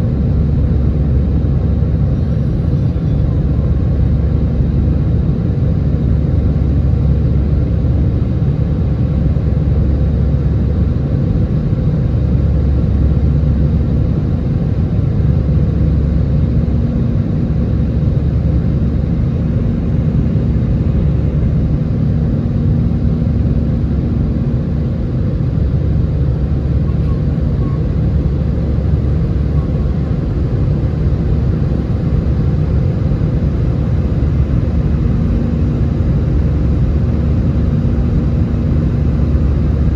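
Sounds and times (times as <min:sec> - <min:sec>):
faint hum: 0:00.0 - 0:39.9
jet engine deep rumble: 0:00.0 - 0:39.9.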